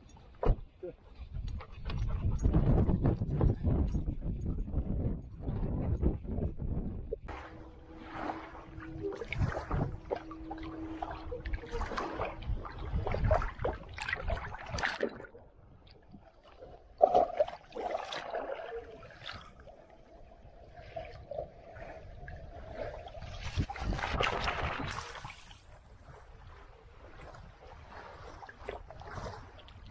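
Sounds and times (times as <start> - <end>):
water sloshing and trickling: 0.0 - 29.9
wind rumbling on microphone: 0.0 - 29.9.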